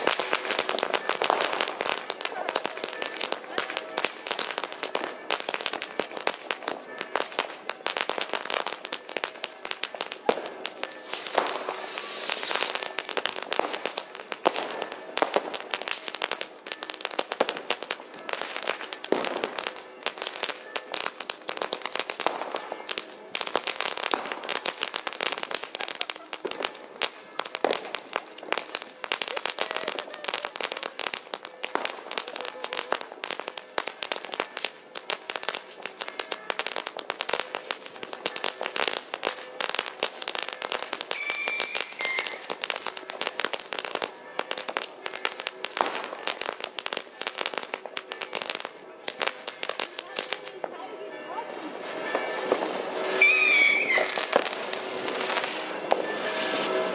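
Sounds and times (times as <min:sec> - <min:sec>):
firecrackers bangs and pops: 0:00.0 - 0:50.7, 0:51.6 - 0:56.9.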